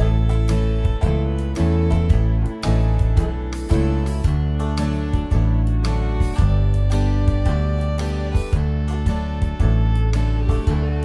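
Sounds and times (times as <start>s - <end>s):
bass line: 0.0s - 11.0s
plucked guitar music: 0.0s - 11.0s.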